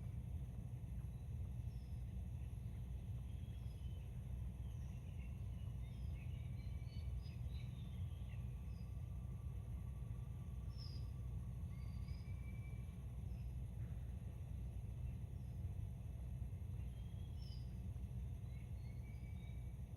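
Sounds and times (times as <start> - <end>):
small birds chirping: 0.0 - 19.9
steady low rumble: 0.0 - 19.9.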